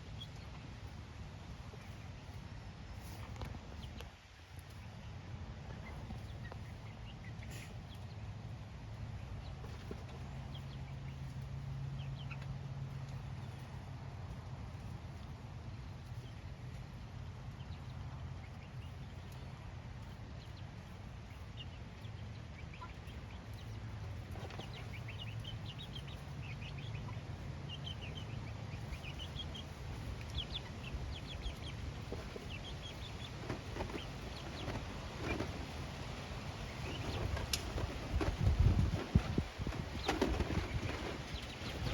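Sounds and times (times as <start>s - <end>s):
chickens clucking: 0.2s - 41.9s.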